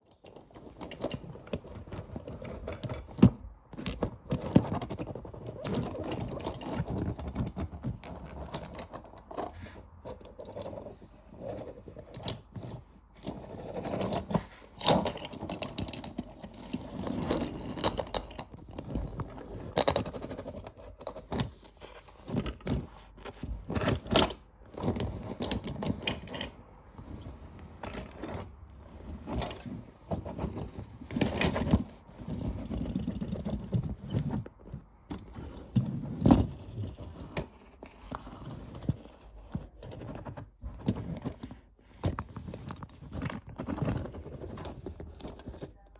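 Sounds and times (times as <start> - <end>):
metal toy cars rolling and rattling: 0.1 - 45.7.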